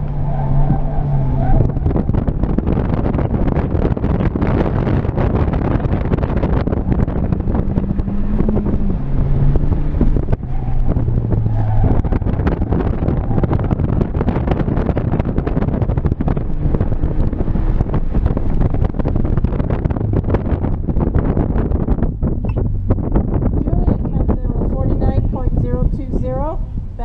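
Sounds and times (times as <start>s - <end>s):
car engine pulling under load: 0.0s - 23.6s
road noise: 0.0s - 27.0s
wind noise: 0.0s - 27.0s.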